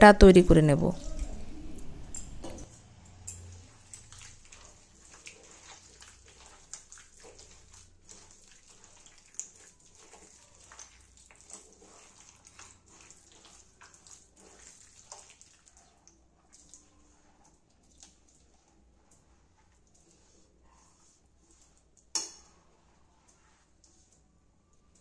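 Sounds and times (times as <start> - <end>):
hand squelching batter in bowl: 3.5 - 25.0.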